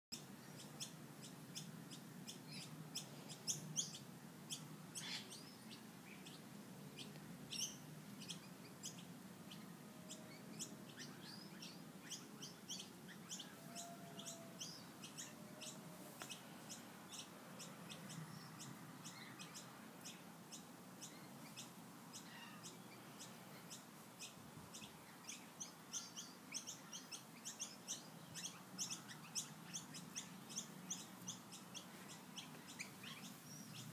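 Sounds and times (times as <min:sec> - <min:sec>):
bird chirping: 0:00.1 - 0:33.9.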